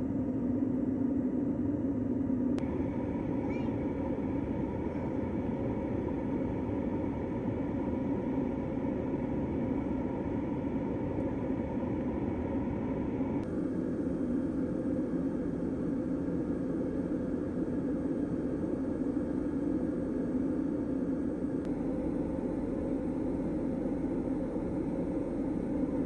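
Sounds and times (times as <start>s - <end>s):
airplane cabin engine rush: 0.0s - 26.0s.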